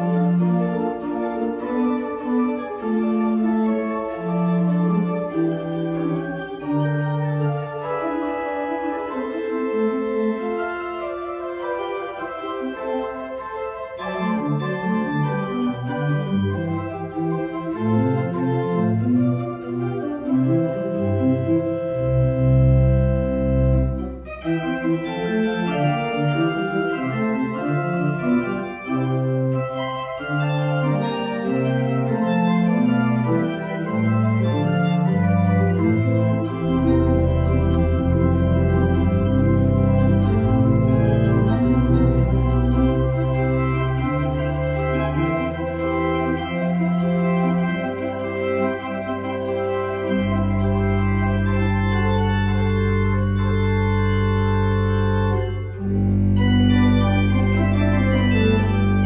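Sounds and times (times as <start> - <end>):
deep organ pedal notes: 0.0 - 59.0
organ music: 0.0 - 59.0.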